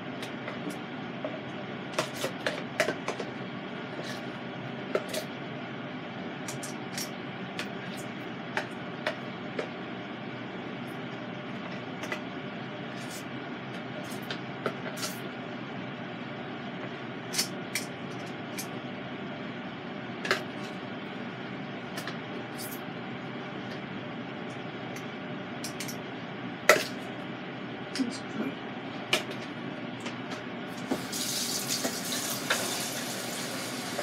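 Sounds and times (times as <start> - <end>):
air fryer whirring: 0.0 - 34.0.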